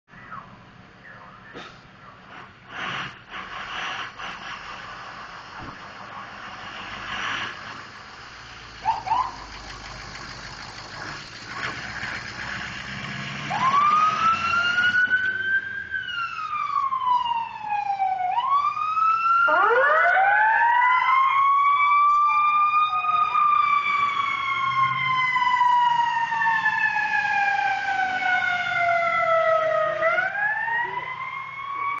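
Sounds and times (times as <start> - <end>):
emergency vehicle sirens wailing: 3.7 - 32.0.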